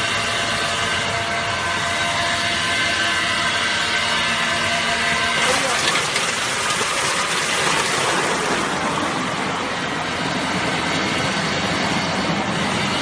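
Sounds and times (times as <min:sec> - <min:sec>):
grinding machine running: 0:00.0 - 0:13.0.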